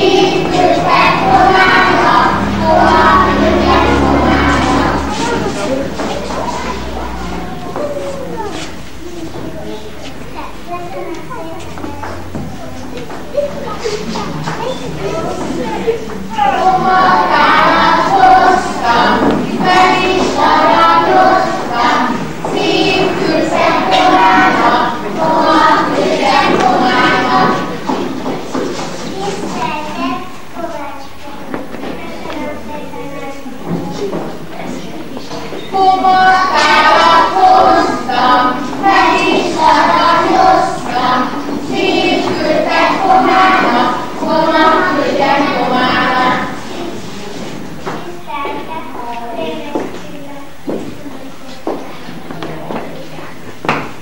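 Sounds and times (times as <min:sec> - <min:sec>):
children singing together: 0:00.0 - 0:54.0.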